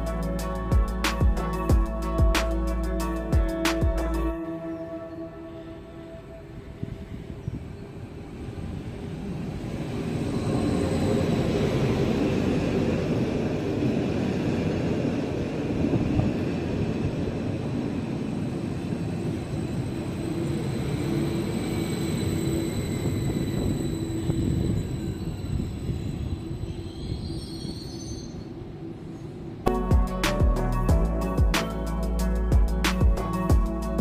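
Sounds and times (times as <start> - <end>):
train running and wheel noise: 0.0 - 29.7
train drive whine: 0.0 - 34.0.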